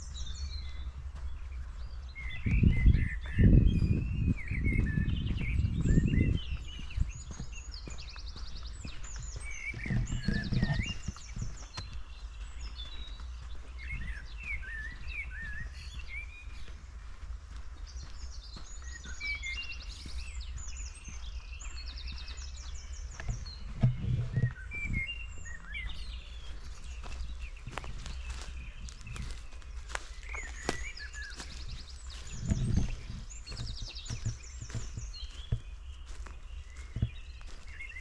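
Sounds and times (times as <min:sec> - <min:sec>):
footsteps on forest floor: 0:00.0 - 0:38.0
low rumble of wind: 0:00.0 - 0:38.0
songbirds chirping and trilling: 0:00.0 - 0:38.0.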